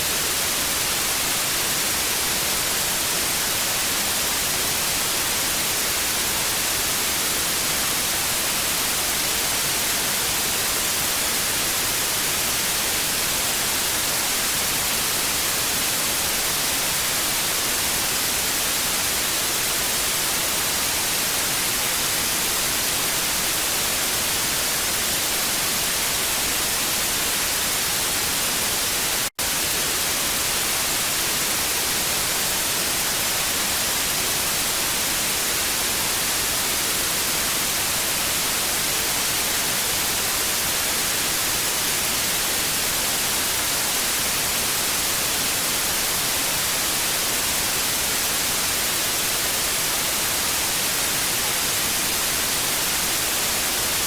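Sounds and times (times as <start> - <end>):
television static hiss: 0.0 - 54.0.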